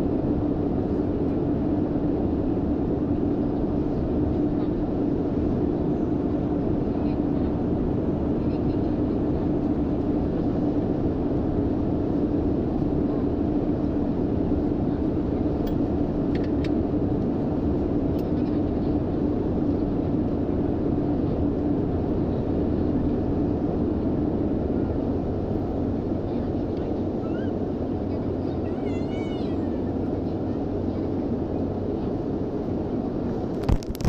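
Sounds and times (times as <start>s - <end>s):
airliner cabin engine drone: 0.0s - 34.0s.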